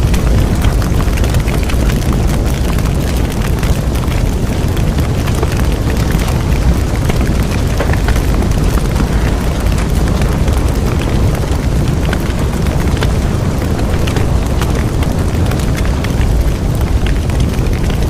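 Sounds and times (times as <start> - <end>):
bonfire roaring: 0.0 - 18.0
burning wood crackling and popping: 0.0 - 18.0.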